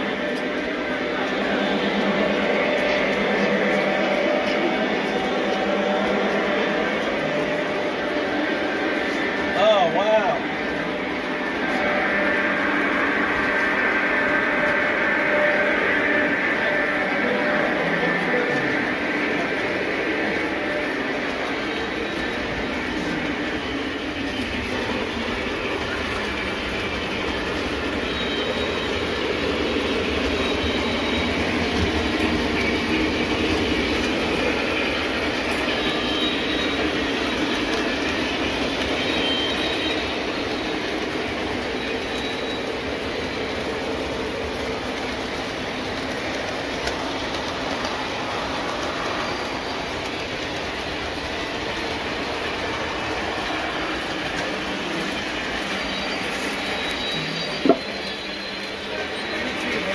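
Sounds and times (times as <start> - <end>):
model trains running on track: 0.0 - 59.9.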